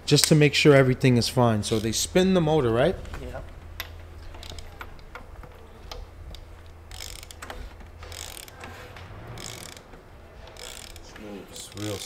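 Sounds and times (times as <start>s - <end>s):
light mechanical clicking: 1.6s - 12.0s.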